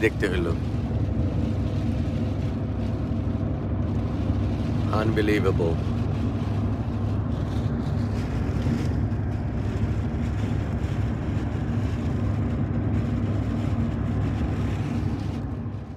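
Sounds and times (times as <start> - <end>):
car engine and road noise: 0.0 - 15.9.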